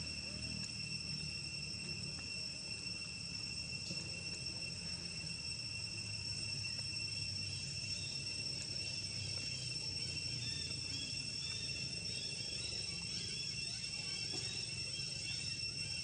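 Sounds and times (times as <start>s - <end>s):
high-pitched insect drone: 0.0s - 16.0s
higher insect tone: 0.0s - 16.0s.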